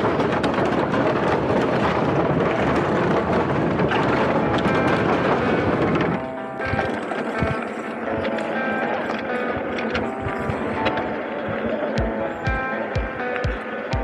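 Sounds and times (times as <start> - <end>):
bike tyres clattering over wooden boards: 0.0 - 14.0
wind buffeting microphone: 0.0 - 14.0.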